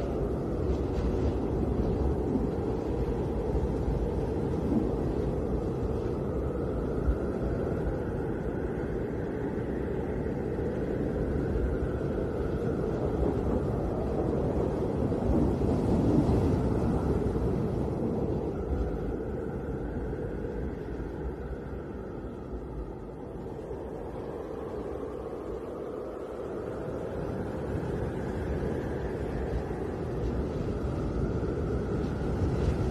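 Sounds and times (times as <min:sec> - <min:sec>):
snowstorm wind rushing: 0:00.0 - 0:32.9.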